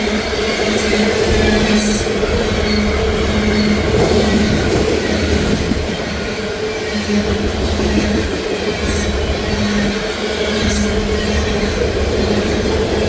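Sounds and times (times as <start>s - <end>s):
freight train wheels rumbling on rail: 0.0s - 13.0s
high wheel squeal: 0.2s - 12.8s.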